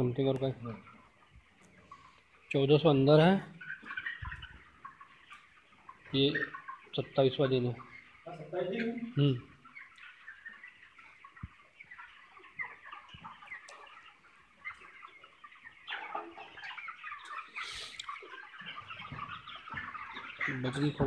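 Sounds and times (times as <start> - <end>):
chickens peeping and clucking: 0.0 - 21.0.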